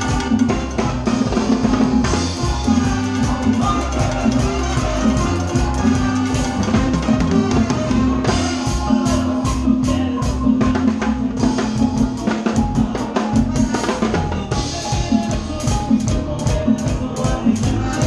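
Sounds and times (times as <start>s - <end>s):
drum kit: 0.0s - 18.0s
live band playing: 0.0s - 18.0s.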